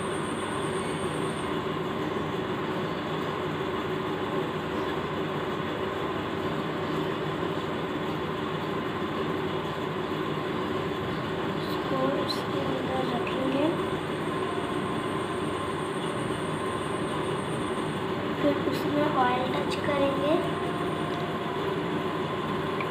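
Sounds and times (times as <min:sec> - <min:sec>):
steady mechanical hum: 0:00.0 - 0:22.9.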